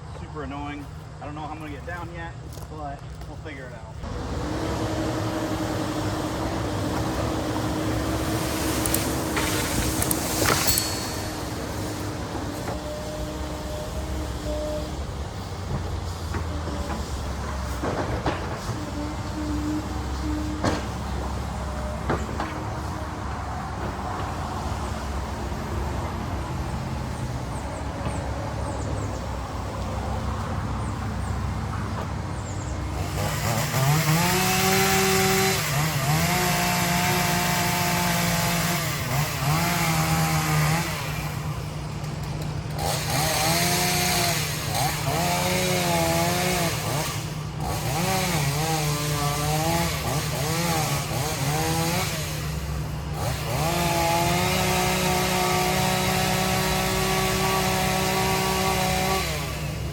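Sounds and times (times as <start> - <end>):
excavator diesel engine: 4.0 - 59.9
hydraulic whine: 4.0 - 59.9.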